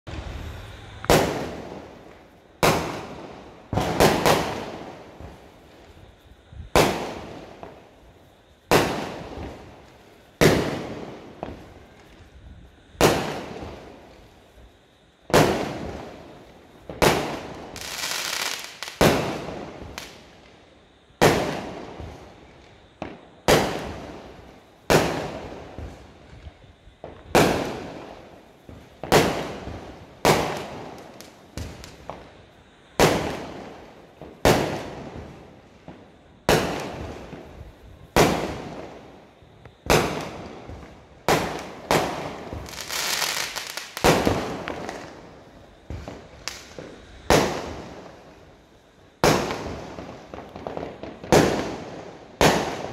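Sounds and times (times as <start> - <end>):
fireworks bangs: 0.0 - 20.4, 21.2 - 52.9
fireworks hissing: 0.0 - 52.9.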